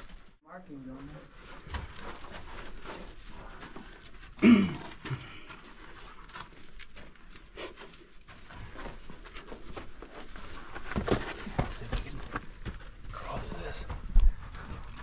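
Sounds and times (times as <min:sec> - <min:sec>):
paws scrabbling on sandy rock: 0:01.2 - 0:15.0.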